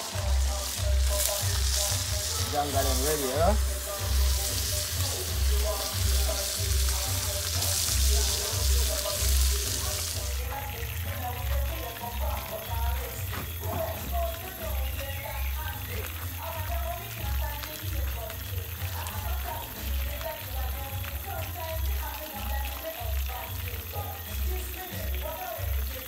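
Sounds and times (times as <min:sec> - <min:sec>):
fish frying in hot oil: 0:00.0 - 0:26.0
music with bass beat: 0:00.0 - 0:26.0.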